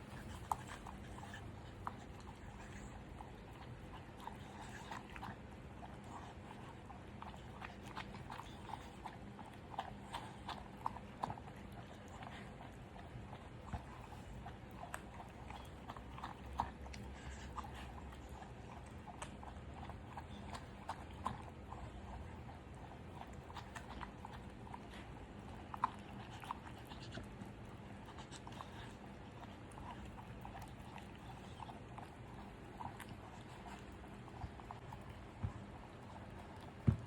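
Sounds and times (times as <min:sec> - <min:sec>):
dog chewing food: 0:00.0 - 0:37.0.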